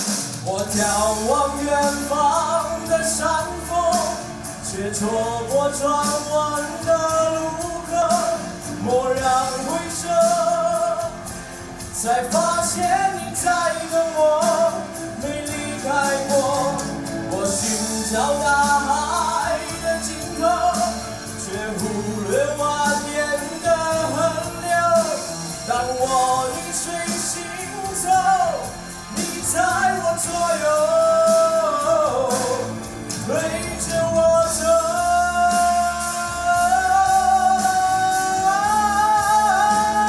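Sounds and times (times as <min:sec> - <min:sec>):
instrumental accompaniment: 0:00.0 - 0:40.0
person singing slow pop song: 0:00.0 - 0:40.0.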